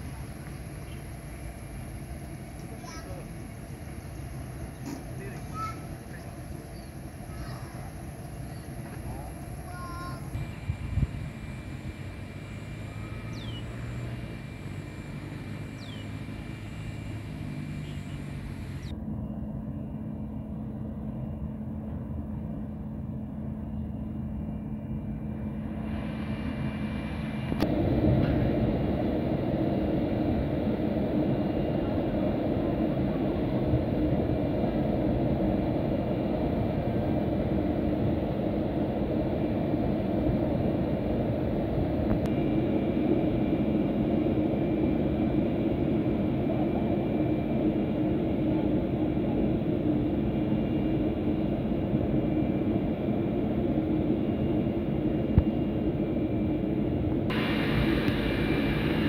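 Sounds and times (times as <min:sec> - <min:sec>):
jet airliner engine hum: 0:00.0 - 0:59.0.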